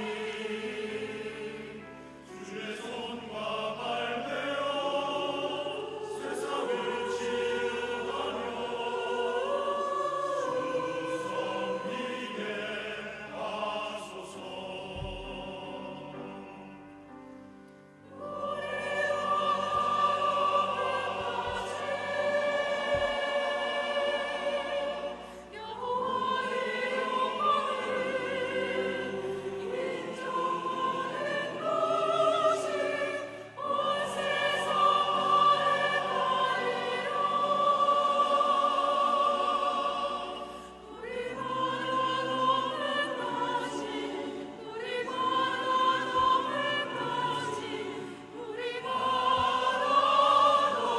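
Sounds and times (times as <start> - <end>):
church choir singing: 0.0 - 50.9.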